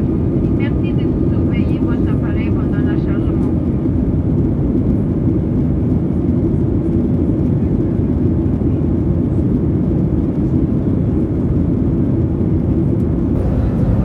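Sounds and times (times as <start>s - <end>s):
jet airliner cabin rumble: 0.0s - 14.0s.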